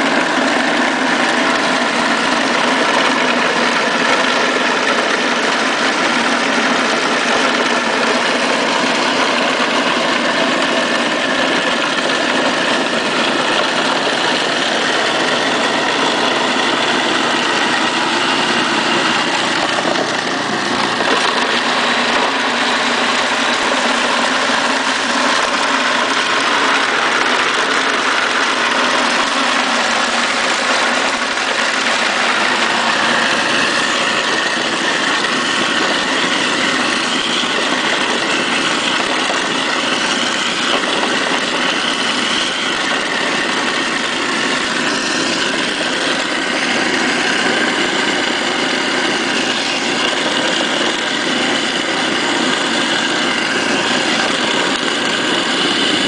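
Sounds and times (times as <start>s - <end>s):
apple grinder motor running: 0.0s - 56.0s.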